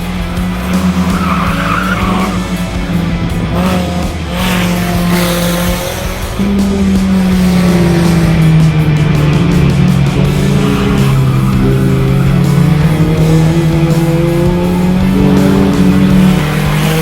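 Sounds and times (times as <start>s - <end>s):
background music: 0.0s - 17.0s
race car engines: 0.0s - 17.0s
tyres skidding: 0.0s - 17.0s.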